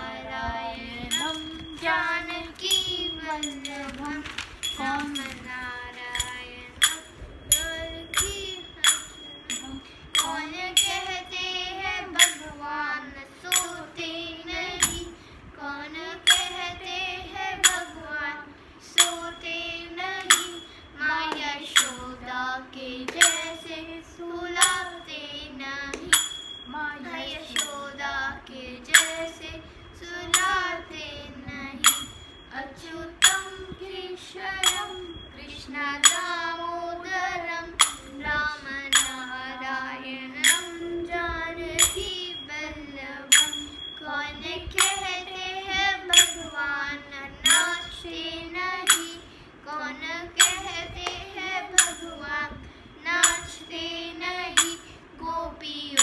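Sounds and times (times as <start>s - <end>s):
girl singing devotional song: 0.0s - 56.0s
small hand cymbals clashing: 1.0s - 12.6s, 13.4s - 15.5s, 16.2s - 18.2s, 18.9s - 55.2s.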